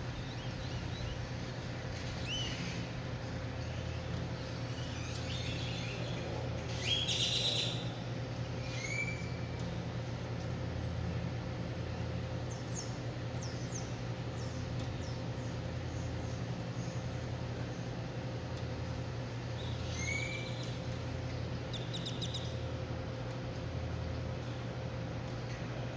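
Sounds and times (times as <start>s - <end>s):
small birds chirping: 0.0s - 24.6s
steady low hum: 0.0s - 25.9s.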